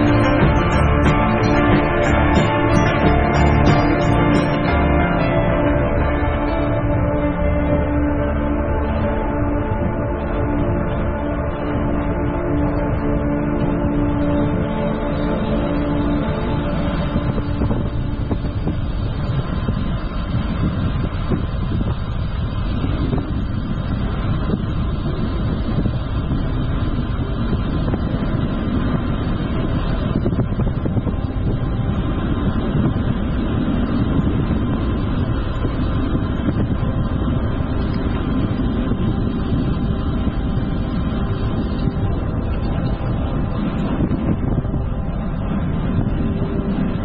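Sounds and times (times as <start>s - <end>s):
wind rumble on microphone: 0.0s - 47.0s.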